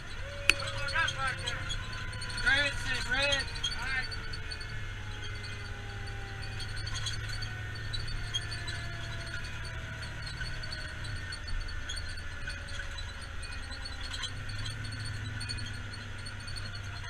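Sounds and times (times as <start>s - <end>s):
low mechanical hum: 0.0s - 17.0s
thin tones sliding downward: 0.0s - 17.0s.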